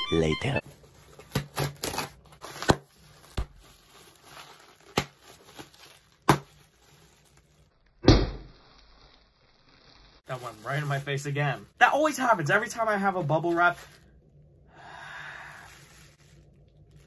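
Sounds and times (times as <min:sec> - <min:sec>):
bubble wrap crinkling and ripping: 0:00.6 - 0:17.0.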